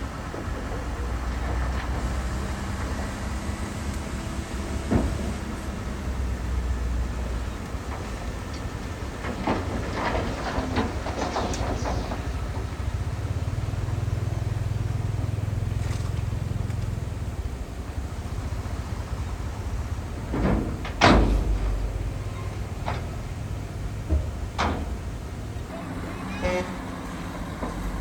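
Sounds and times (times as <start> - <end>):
heavy machinery rumbling: 0.0 - 28.0.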